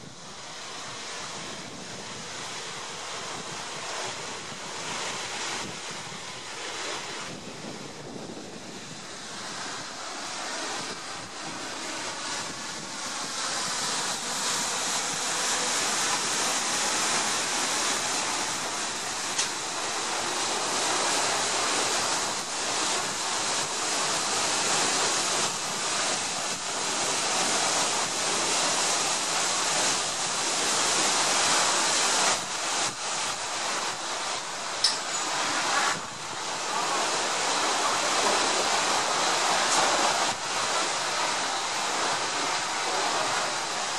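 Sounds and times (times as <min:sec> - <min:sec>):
paddle wheels churning water: 0:00.0 - 0:43.9.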